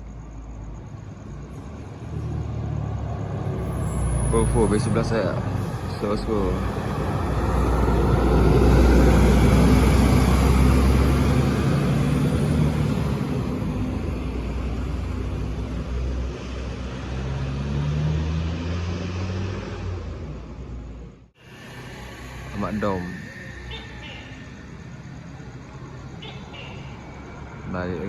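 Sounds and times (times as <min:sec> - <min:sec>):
bus diesel engine passing: 0:00.0 - 0:28.0.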